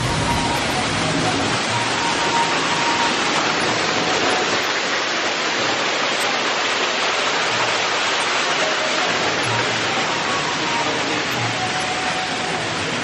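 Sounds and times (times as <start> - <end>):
rushing falling water: 0.0 - 13.0.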